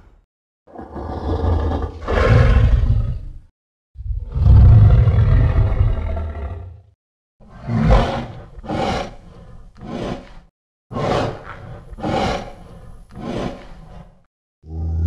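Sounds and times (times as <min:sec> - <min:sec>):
deep monster roar: 0:00.7 - 0:03.4, 0:04.0 - 0:10.3, 0:10.9 - 0:15.0.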